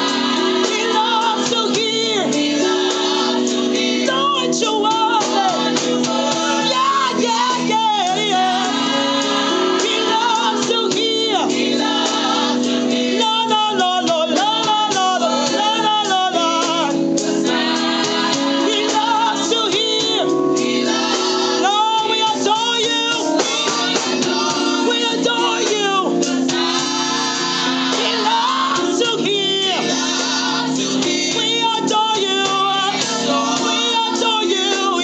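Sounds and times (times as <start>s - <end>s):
gospel singing: 0.0s - 35.0s.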